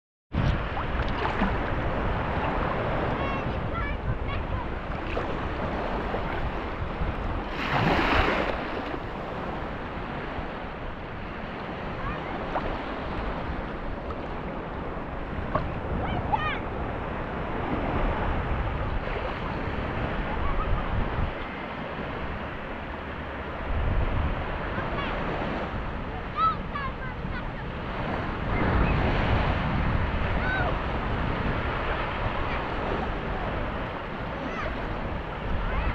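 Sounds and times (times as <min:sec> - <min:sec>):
rush of water: 0:00.4 - 0:35.9
small waves lapping: 0:00.5 - 0:35.9.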